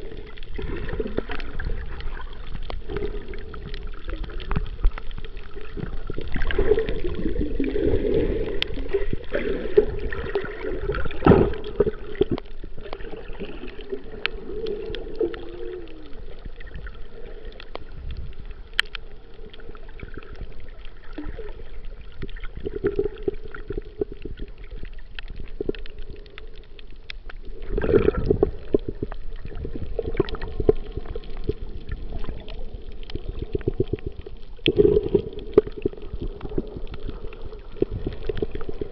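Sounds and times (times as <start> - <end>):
small underwater clicks: 0.0 - 38.9
underwater sloshing and gurgling: 0.0 - 38.9.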